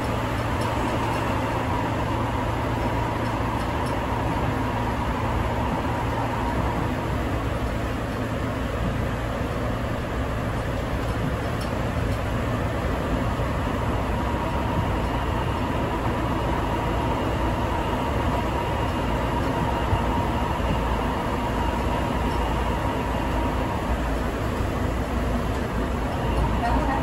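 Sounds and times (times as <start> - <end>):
faint steady whine: 0.0 - 27.0
train rumbling inside car: 0.0 - 27.0.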